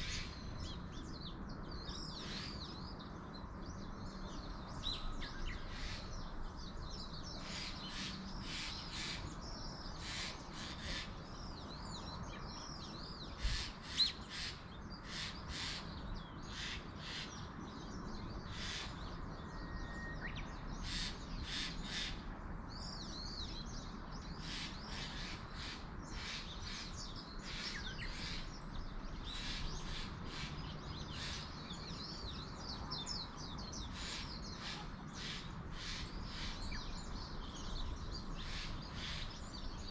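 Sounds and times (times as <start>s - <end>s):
outdoor background: 0.0s - 39.9s
birds calling: 3.8s - 39.9s.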